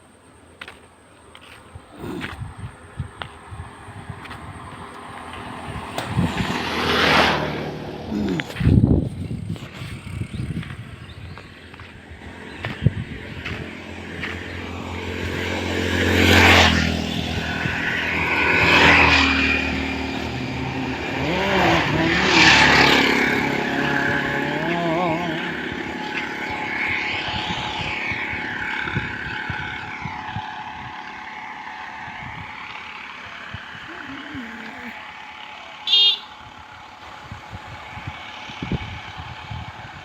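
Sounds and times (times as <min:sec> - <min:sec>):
road vehicles passing: 0:00.0 - 0:40.0.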